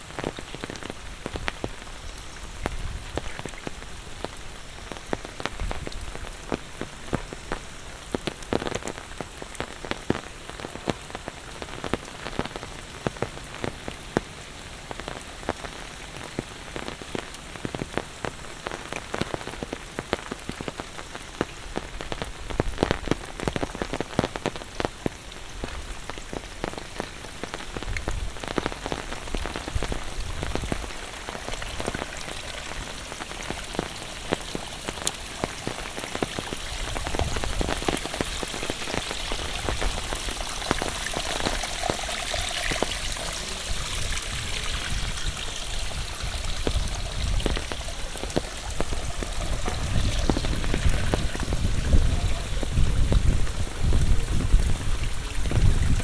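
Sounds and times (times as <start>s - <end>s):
rain falling steadily: 0.0s - 56.0s
raindrops ticking: 0.0s - 56.0s.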